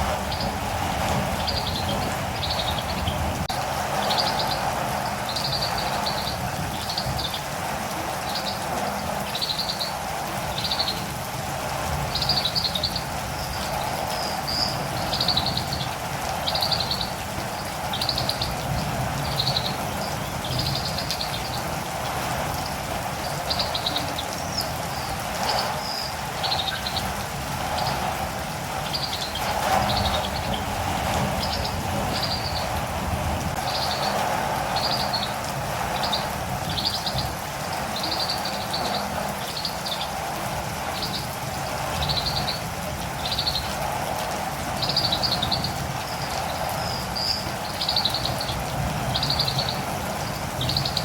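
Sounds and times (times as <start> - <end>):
birds chirping: 0.0 - 51.0
rain hissing: 0.0 - 51.0.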